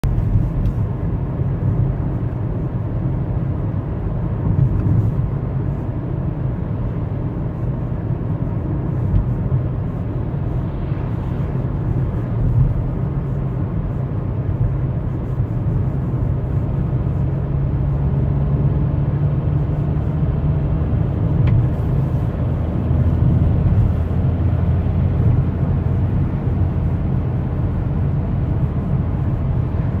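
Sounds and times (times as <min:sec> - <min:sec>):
engine knocking and rattling: 0:00.0 - 0:10.6, 0:11.8 - 0:30.0.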